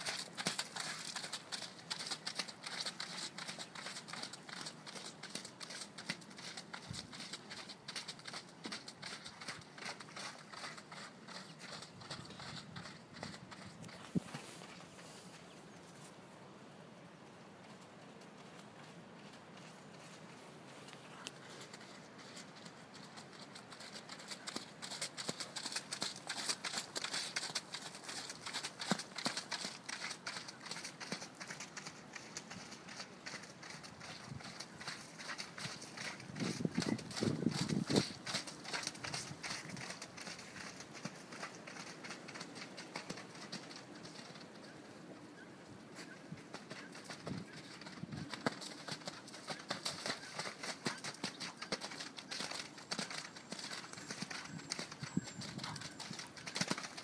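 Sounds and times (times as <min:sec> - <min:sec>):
horse hoofbeats on arena: 0:00.0 - 0:15.1, 0:21.4 - 0:44.8, 0:45.9 - 0:57.0
hooves on wet ground: 0:00.0 - 0:16.2, 0:17.6 - 0:57.0.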